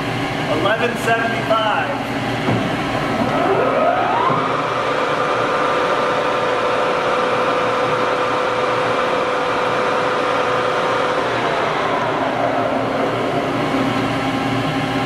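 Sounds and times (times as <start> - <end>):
lathe running with steady whine: 0.0 - 15.0.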